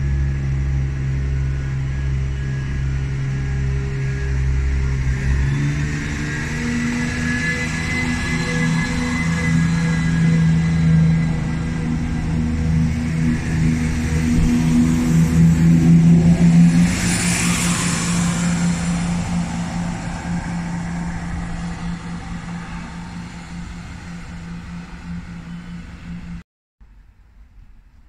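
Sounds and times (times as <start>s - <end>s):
diesel train engine: 0.0s - 26.4s
rushing wheel and air noise: 0.0s - 26.4s.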